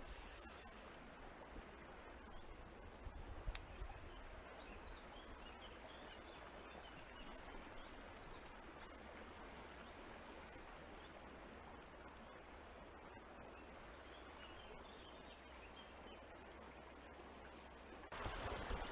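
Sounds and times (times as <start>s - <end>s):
shallow stream rushing: 0.0s - 18.9s.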